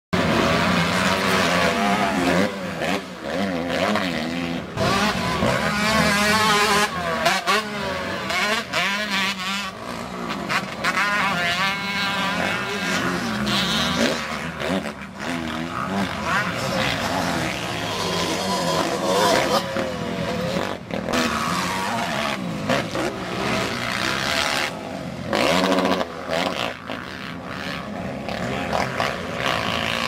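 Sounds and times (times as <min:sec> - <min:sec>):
motorcycle engines revving: 0:00.2 - 0:30.0.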